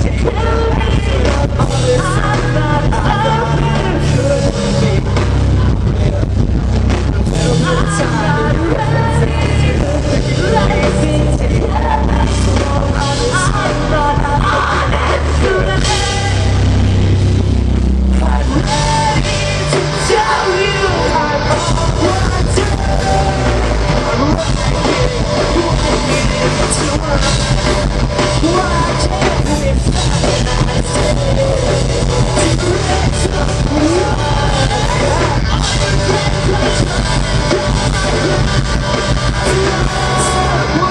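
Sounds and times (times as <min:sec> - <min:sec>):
person singing and yelling: 0:00.0 - 0:16.8, 0:18.1 - 0:40.9
rock band playing live: 0:00.0 - 0:40.9.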